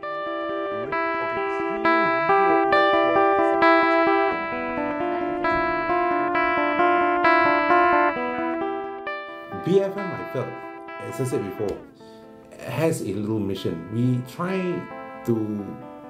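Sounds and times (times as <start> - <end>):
solo guitar picking notes: 0.0 - 16.0.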